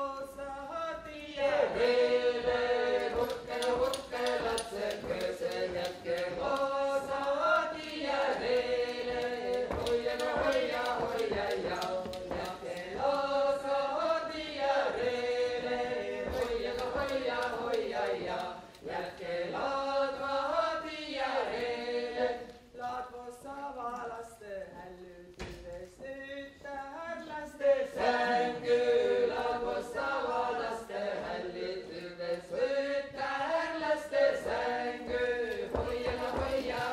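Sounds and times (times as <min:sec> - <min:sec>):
folk choir singing unaccompanied: 0:00.0 - 0:36.9.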